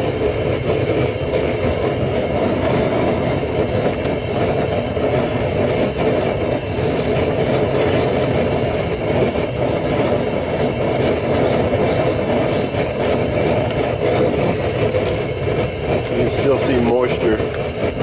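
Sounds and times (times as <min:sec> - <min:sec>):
propane burner roaring: 0:00.0 - 0:18.0.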